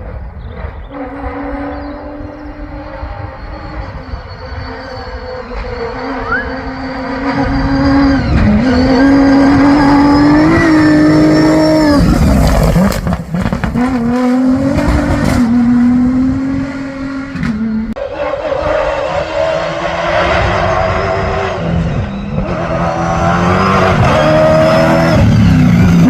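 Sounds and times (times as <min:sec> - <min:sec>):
racing engine at high revs: 0:00.0 - 0:26.0.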